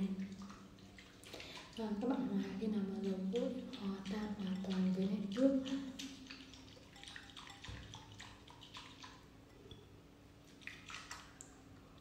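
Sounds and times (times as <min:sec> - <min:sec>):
water sloshing in bowl: 0:00.0 - 0:12.0.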